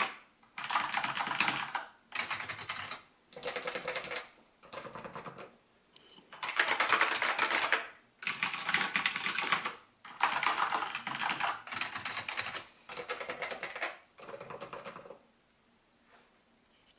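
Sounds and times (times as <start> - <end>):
mechanical keyboard typing: 0.0 - 5.5, 6.4 - 15.2.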